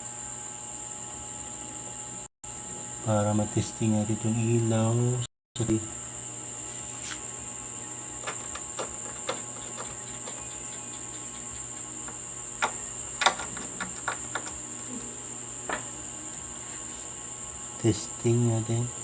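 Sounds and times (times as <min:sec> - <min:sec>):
high-pitched whine: 0:00.0 - 0:19.0
low hum: 0:01.3 - 0:19.0.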